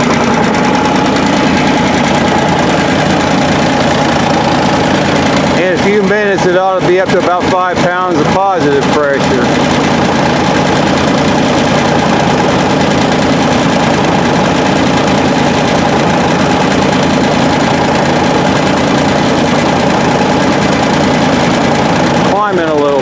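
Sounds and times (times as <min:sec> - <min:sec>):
tractor engine and pump drone: 0:00.0 - 0:23.0.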